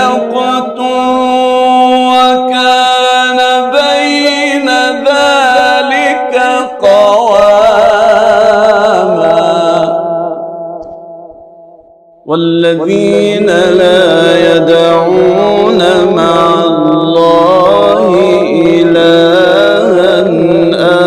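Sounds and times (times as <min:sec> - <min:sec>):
man chanting recitation: 0:00.0 - 0:10.1, 0:12.3 - 0:21.0.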